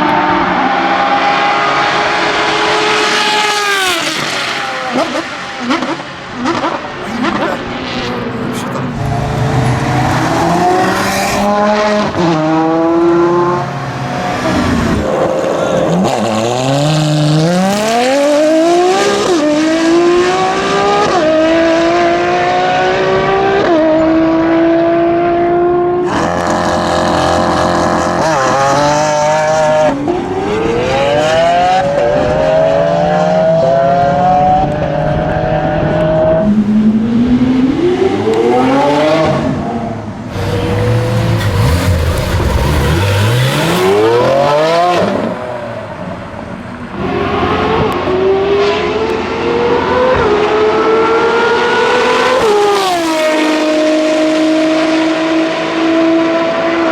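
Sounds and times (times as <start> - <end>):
supercar engine accelerating hard: 0.0 - 56.9.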